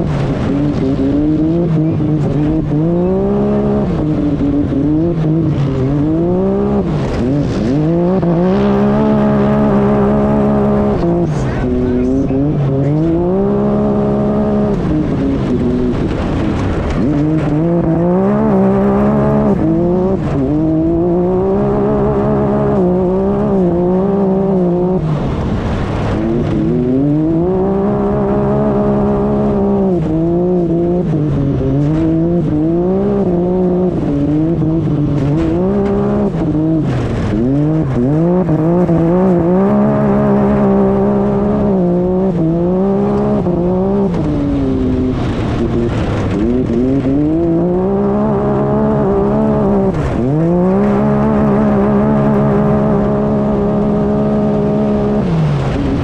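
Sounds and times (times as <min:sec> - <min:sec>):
engine revving: 0:00.0 - 0:56.0.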